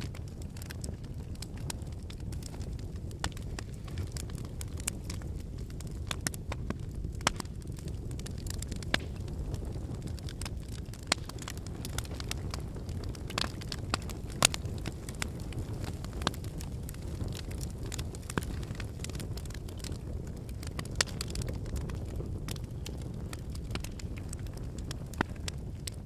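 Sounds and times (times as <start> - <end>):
burning logs crackling and popping: 0.0 - 26.0
low rumble of flames: 0.0 - 26.0.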